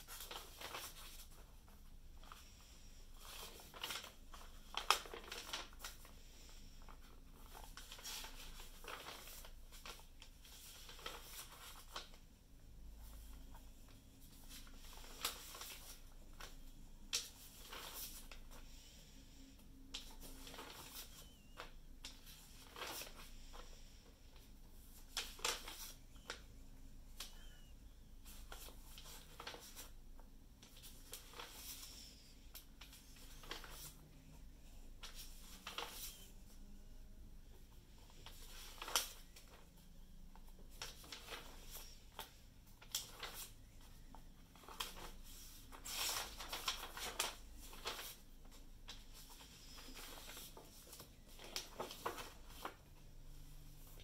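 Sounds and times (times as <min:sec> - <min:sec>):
paper pages turning: 0:00.0 - 0:12.2, 0:13.0 - 0:18.8, 0:19.9 - 0:26.5, 0:27.1 - 0:29.9, 0:30.6 - 0:34.0, 0:35.0 - 0:36.5, 0:37.9 - 0:39.8, 0:40.4 - 0:54.0.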